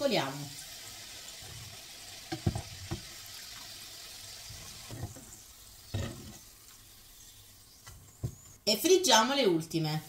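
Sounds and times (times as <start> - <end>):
oil sizzling: 0.0 - 8.6.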